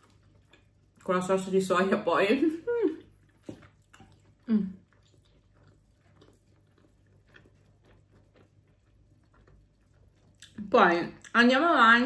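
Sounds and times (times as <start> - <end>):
chewing with mouth clicks: 0.0 - 1.5, 2.9 - 11.4.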